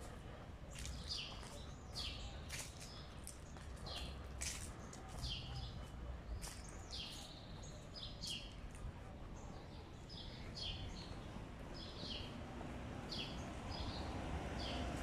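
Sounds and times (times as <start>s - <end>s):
low rumble of street noise: 0.0s - 15.0s
small birds chirping: 0.0s - 15.0s.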